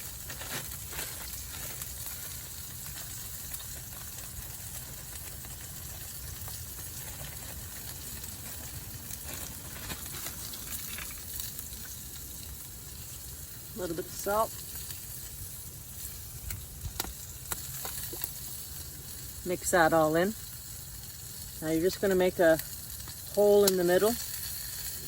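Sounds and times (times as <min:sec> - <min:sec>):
chicken sizzling in a pan: 0:00.0 - 0:25.0.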